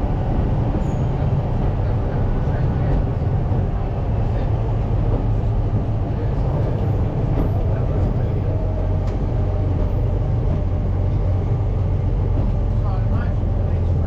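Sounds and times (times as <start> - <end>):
railcar engine rumble: 0.0 - 14.0.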